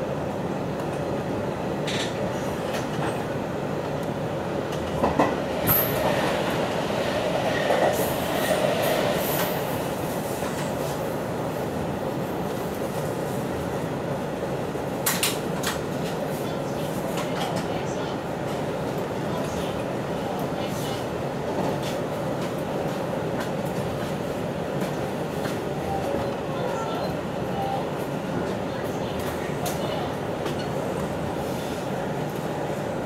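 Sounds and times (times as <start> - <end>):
passing train rush and clacks: 0.0 - 33.0.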